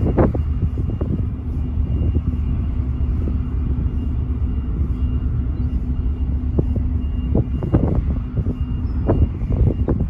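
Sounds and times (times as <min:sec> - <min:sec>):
ship engines rumbling: 0:00.0 - 0:10.0.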